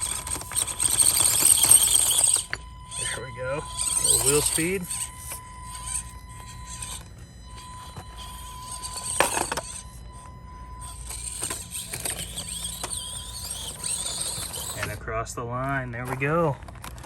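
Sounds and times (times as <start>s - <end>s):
toy car knocks and scrapes: 0.0s - 2.7s, 3.7s - 15.0s
small electric motor whine: 0.0s - 15.1s.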